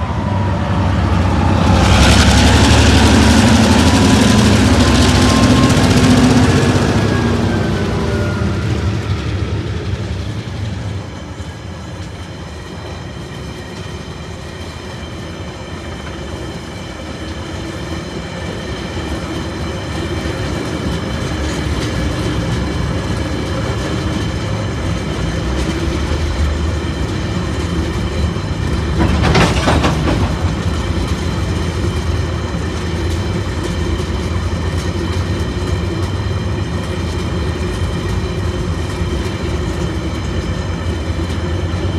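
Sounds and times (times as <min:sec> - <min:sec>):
train wheels clattering on rails: 0:00.0 - 0:41.9.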